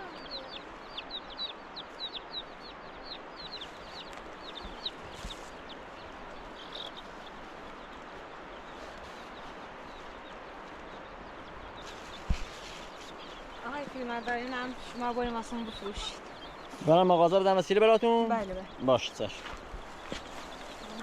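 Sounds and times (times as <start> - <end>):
bird peeping: 0.0 - 21.0.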